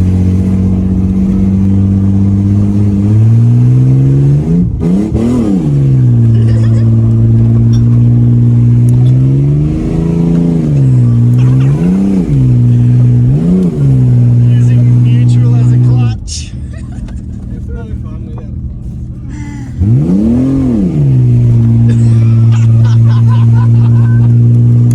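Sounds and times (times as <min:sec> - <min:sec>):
car engine revving: 0:00.0 - 0:24.9.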